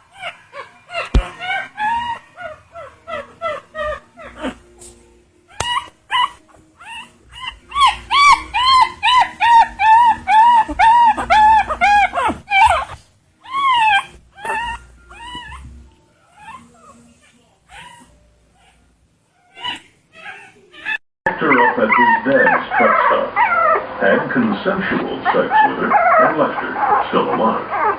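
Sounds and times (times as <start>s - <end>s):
small dog whimpering: 0.1s - 4.7s, 5.5s - 18.8s, 19.4s - 23.8s, 25.3s - 27.9s.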